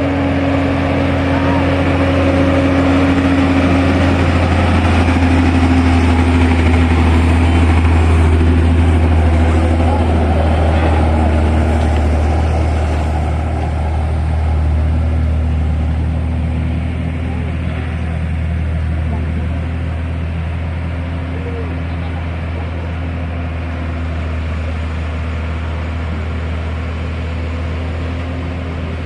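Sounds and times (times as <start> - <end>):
diesel bus engine idling: 0.0 - 29.0.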